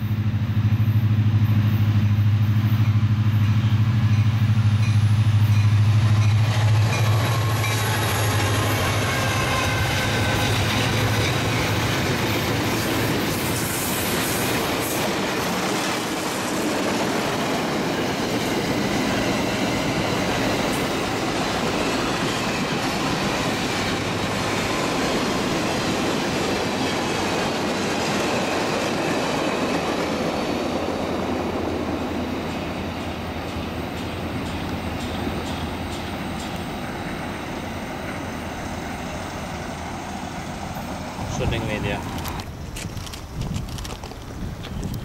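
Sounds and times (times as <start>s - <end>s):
train wheels rumbling on rail: 0.0s - 45.0s
wheels clicking over rail joints: 3.4s - 37.0s, 41.2s - 45.0s.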